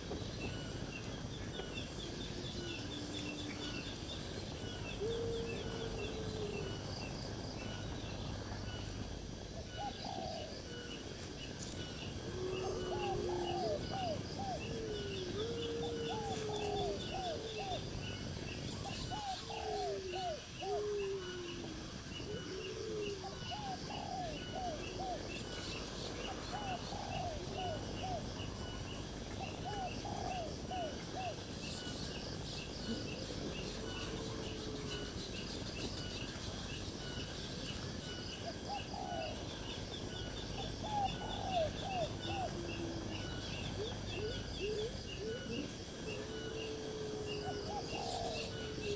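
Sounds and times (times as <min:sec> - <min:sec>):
wild birds calling: 0:00.0 - 0:48.9.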